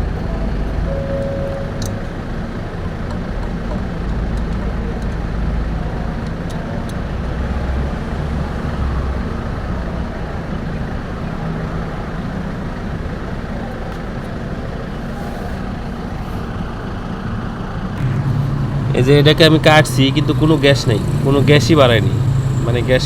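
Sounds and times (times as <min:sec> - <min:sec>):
mechanical hum and rumble: 0:00.0 - 0:11.4, 0:12.5 - 0:23.0.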